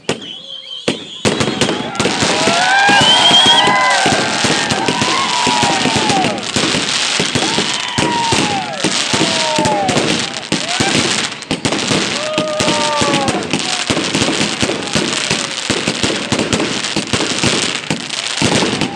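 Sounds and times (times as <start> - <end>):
fireworks bangs and crackles: 0.0 - 18.9
fireworks whistles: 0.0 - 18.9.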